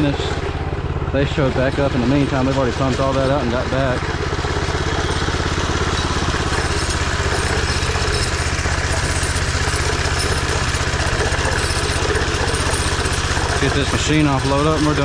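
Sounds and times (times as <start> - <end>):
gasoline engine idling: 0.0 - 15.0.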